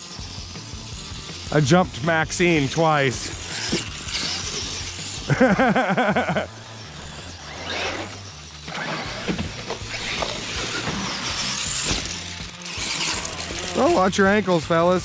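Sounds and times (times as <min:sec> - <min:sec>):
electric toy truck motor whining: 0:00.0 - 0:14.9.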